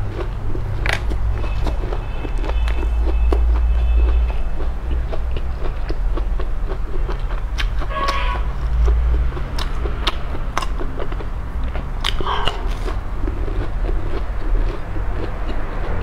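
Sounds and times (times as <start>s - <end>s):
chewing crispy fried food: 0.0s - 16.0s
steady low hum: 0.0s - 16.0s
wet mouth noises: 0.0s - 16.0s.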